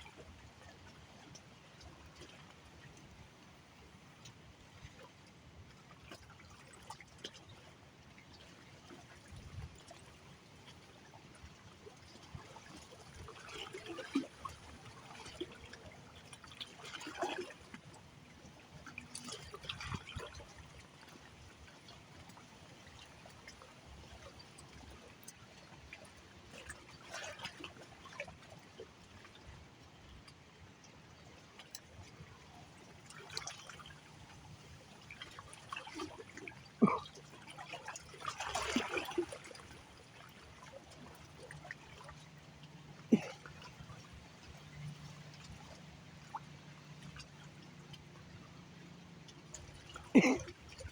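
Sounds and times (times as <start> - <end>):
small water splashes: 0.0 - 50.9
water lapping and trickling: 0.0 - 50.9.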